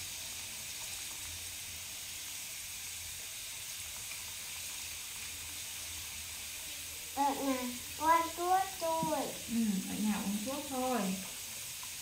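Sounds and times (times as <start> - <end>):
potato sticks sizzling in oil: 0.0 - 12.0.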